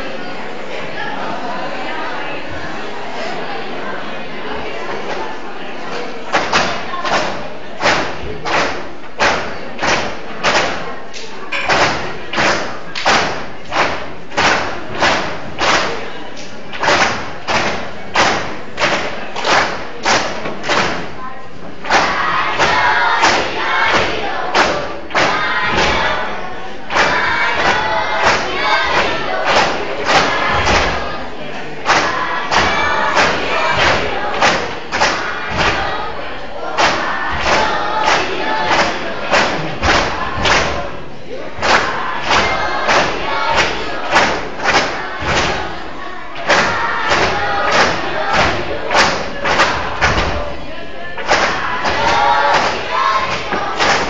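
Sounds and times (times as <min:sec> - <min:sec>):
children's voices: 0:00.0 - 0:54.0
steady sharp knocks: 0:06.3 - 0:21.2, 0:21.8 - 0:26.3, 0:26.9 - 0:31.2, 0:31.8 - 0:40.9, 0:41.6 - 0:45.8, 0:46.4 - 0:50.5, 0:51.2 - 0:54.0.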